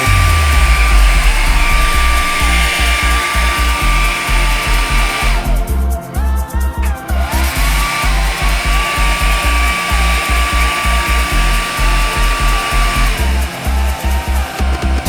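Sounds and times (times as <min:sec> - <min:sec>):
hair dryer blowing: 0:00.0 - 0:06.1, 0:06.9 - 0:15.0
background music with beat: 0:00.0 - 0:15.0.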